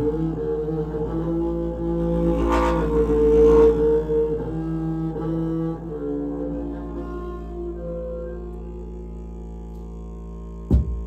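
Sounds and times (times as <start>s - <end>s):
steady many-toned drone: 0.0s - 11.0s.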